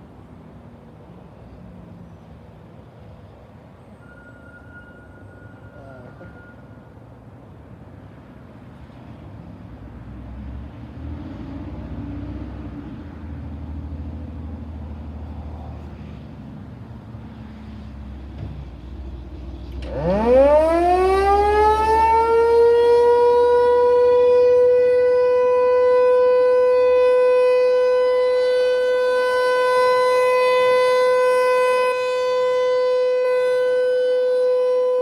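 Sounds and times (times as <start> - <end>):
vehicle engine rumble: 0.0 - 35.0.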